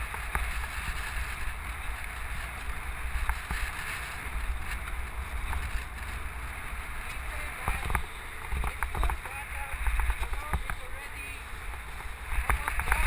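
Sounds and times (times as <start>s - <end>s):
tyres rolling on gravel: 0.0s - 13.0s
wind buffeting microphone: 0.0s - 13.0s.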